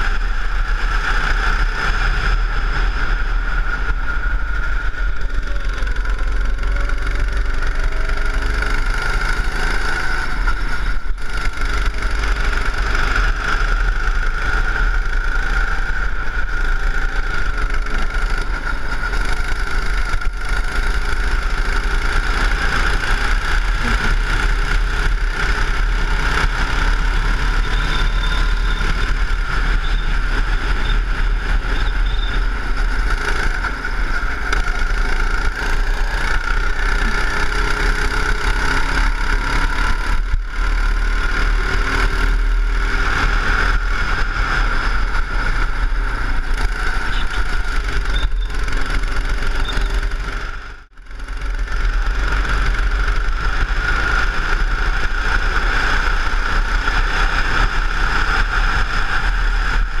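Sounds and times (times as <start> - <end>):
go-kart engine running: 0.0 - 60.0.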